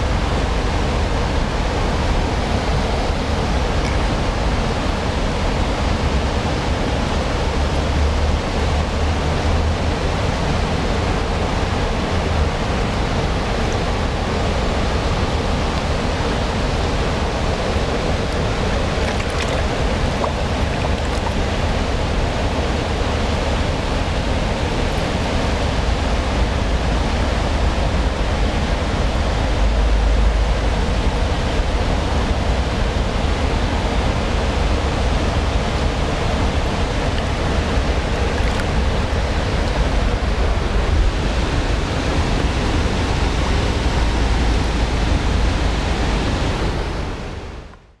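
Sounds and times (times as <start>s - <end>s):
river water rushing over rocks: 0.1s - 47.6s.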